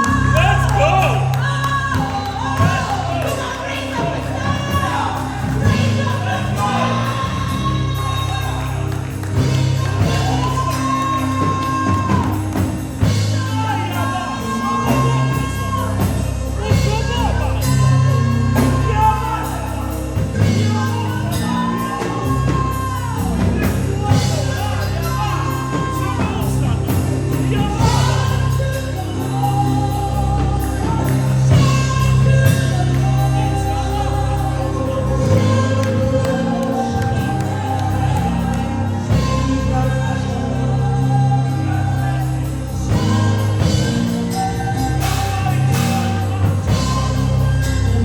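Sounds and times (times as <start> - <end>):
bass: 0.0 - 48.0
keyboard chords: 0.0 - 48.0
singers holding sliding notes: 0.0 - 48.0.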